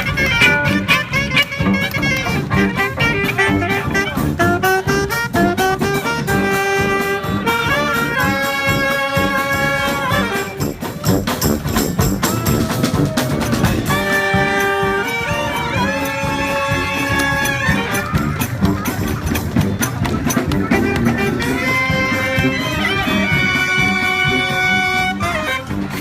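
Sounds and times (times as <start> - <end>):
horns holding long notes: 0.0 - 26.0
marching drums: 0.1 - 26.0.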